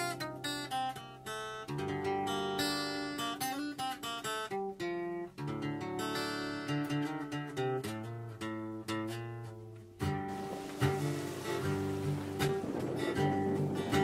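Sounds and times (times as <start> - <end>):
acoustic guitar strummed and picked: 0.0 - 14.0.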